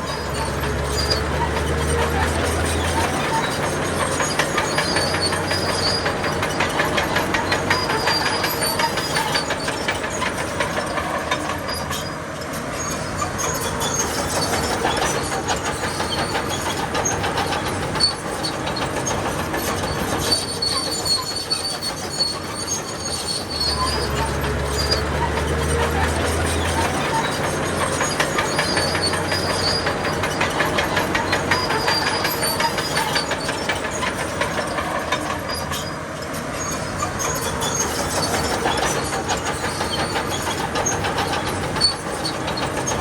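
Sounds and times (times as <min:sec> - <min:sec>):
bulldozer tracks clattering: 0:00.0 - 0:43.0
high-pitched track squeals: 0:00.0 - 0:43.0.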